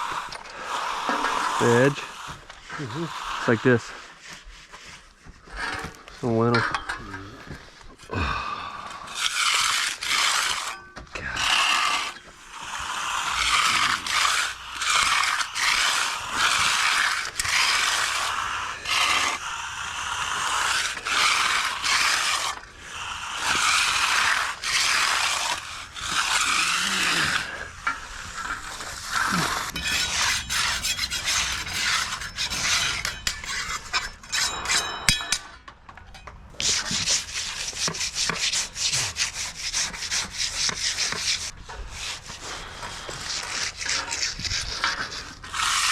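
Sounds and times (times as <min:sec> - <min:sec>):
finishing tools scraping concrete: 0:00.0 - 0:08.1, 0:08.8 - 0:45.9.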